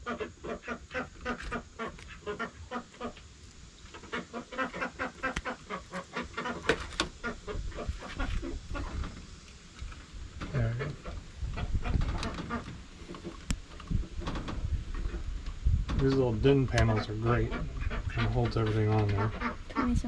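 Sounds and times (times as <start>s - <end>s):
chickens clucking: 0.0s - 9.4s, 10.5s - 14.0s, 16.7s - 20.0s.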